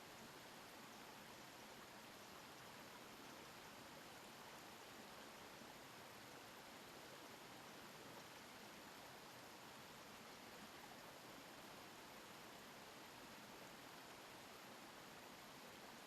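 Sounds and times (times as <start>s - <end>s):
stream babbling: 0.0s - 16.0s.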